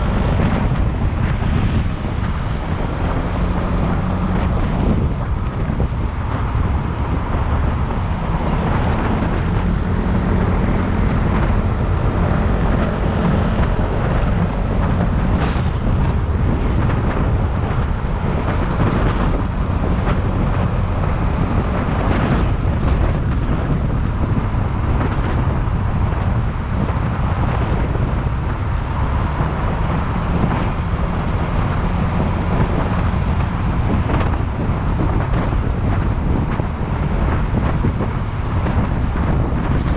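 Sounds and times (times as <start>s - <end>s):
motorcycle engine running: 0.0s - 39.9s
road rumble: 0.0s - 39.9s
wind on microphone: 0.0s - 39.9s.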